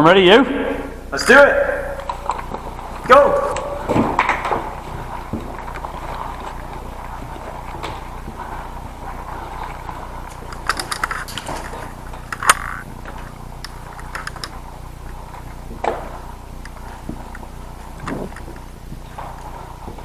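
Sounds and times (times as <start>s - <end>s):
gear clicks and rattles: 1.2s - 20.0s.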